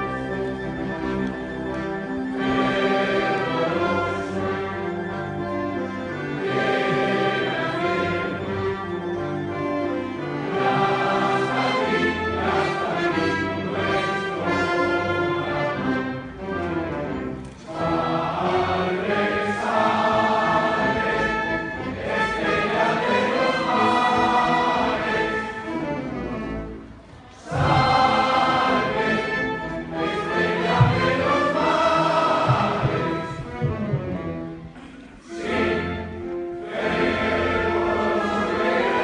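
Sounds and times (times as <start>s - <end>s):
choir singing: 0.0s - 39.0s
orchestral accompaniment: 0.0s - 39.0s.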